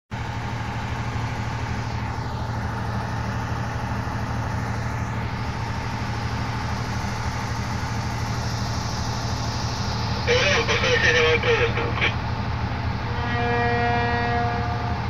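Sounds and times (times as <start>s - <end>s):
diesel locomotive engine running: 0.1s - 15.0s.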